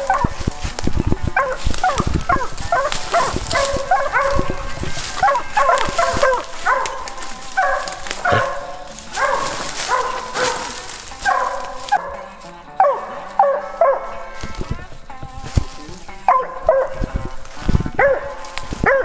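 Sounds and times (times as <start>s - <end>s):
dog barking: 0.0s - 0.5s, 1.3s - 14.5s, 16.2s - 17.3s, 17.9s - 19.0s
footsteps crunching through undergrowth: 0.0s - 19.0s.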